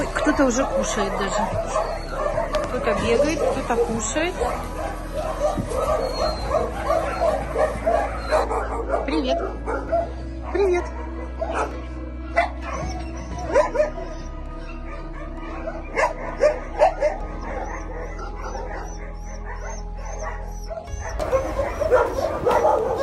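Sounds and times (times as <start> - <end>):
background music: 0.0 - 23.0
dogs barking and yipping: 0.0 - 23.0.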